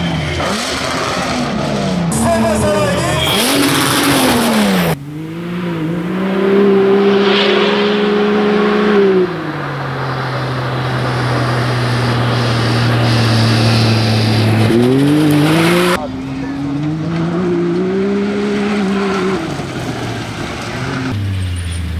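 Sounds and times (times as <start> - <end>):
off-road vehicle engine revving: 0.0 - 21.8.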